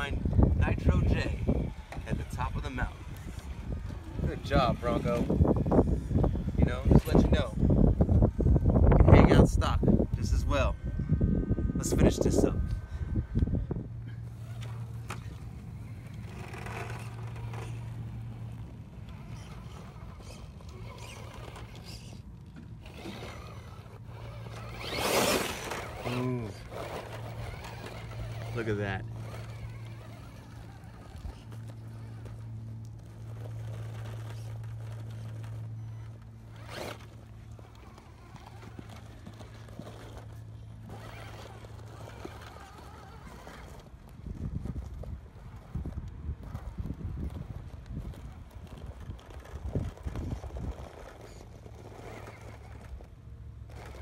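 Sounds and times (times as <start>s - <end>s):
tyres scraping on rock: 0.0s - 8.0s, 14.3s - 54.0s
electric motor humming: 0.0s - 54.0s.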